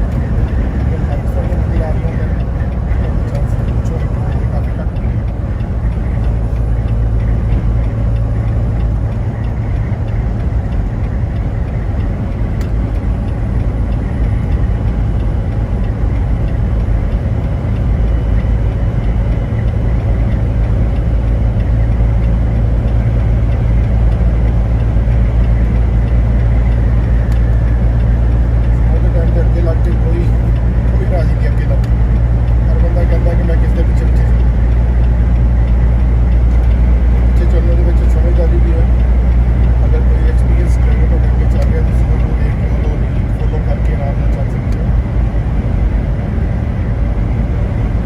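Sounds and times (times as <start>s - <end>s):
vehicle driving rumble: 0.0s - 48.0s.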